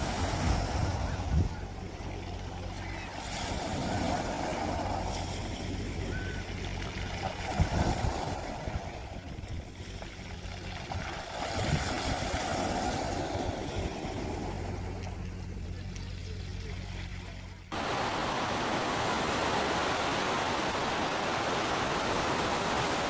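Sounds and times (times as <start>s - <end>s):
sea water washing and surging: 0.0s - 23.0s
steady low hum: 0.0s - 23.0s.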